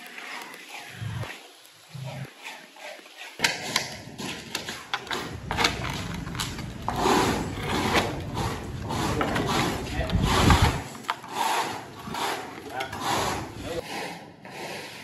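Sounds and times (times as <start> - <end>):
metal rod scraping stone: 2.0 - 15.0.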